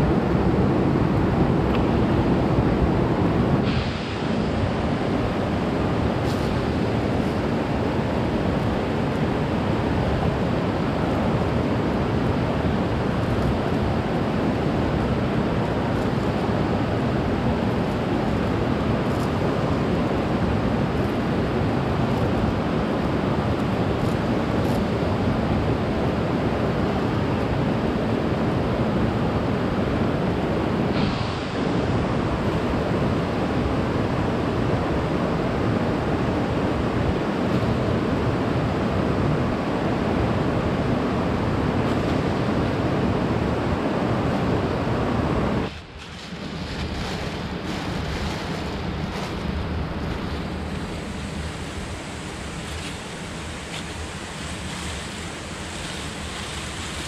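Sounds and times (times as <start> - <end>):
flowing river water: 0.0 - 57.0.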